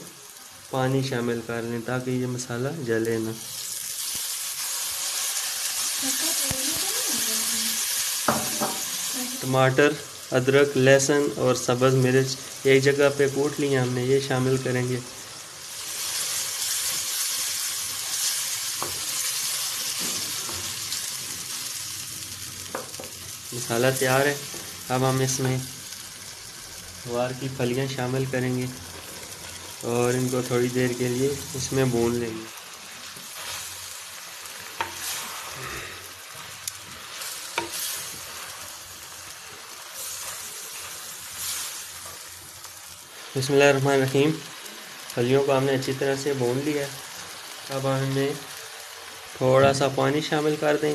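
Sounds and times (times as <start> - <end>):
paste sizzling in hot oil: 0.0 - 50.9.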